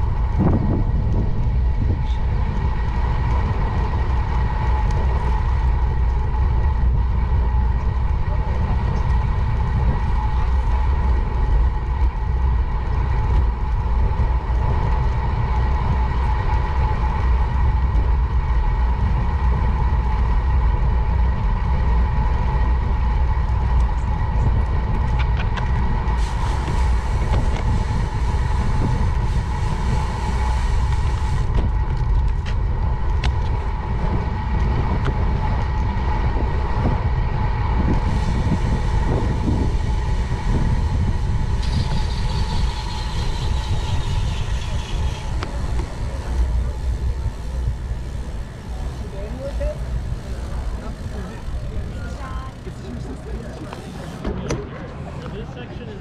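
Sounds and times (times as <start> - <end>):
bicycle tyres rolling on asphalt: 0.0 - 56.0
steady whine: 0.0 - 56.0
wind rushing over microphone: 0.0 - 56.0.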